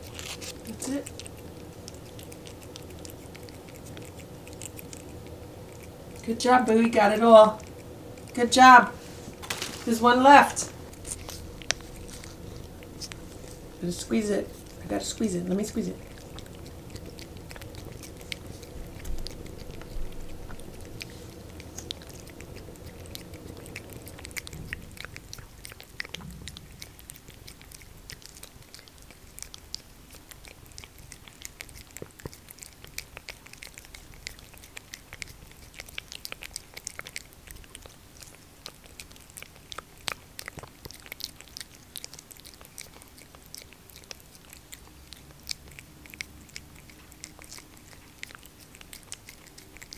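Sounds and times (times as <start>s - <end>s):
cat licking and smacking: 0.0s - 49.9s
cat purring: 0.0s - 49.9s.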